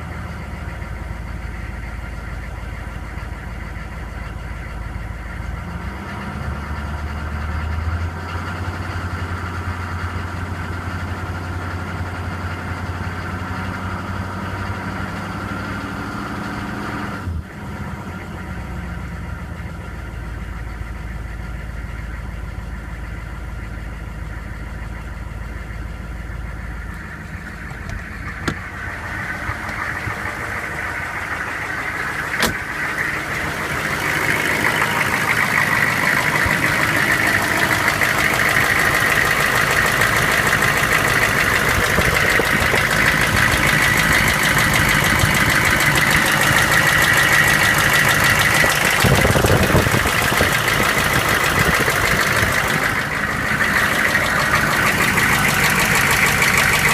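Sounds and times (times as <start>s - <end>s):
diesel engine knocking: 0.0s - 56.9s.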